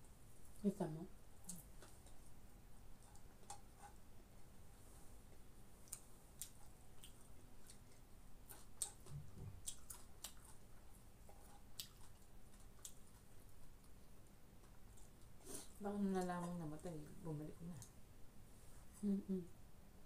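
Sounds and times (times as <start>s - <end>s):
soft chewing: 0.1s - 19.6s.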